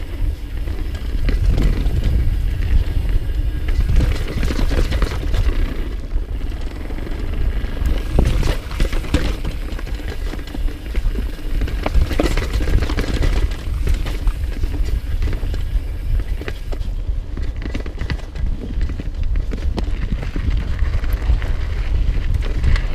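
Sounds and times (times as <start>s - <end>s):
bike rattling over rocks: 0.0s - 22.9s
bike tyres on dirt: 0.0s - 22.9s
wind rumbling on microphone: 0.0s - 22.9s.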